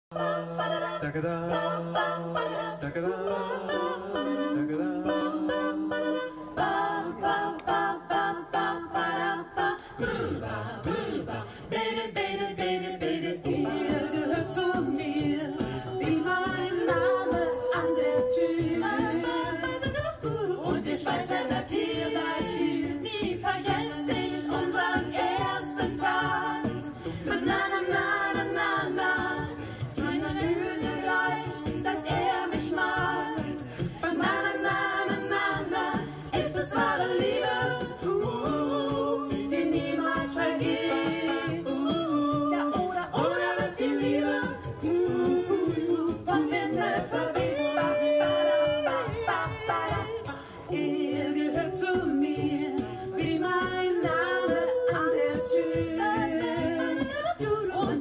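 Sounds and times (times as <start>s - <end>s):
a cappella group singing: 0.0s - 58.0s.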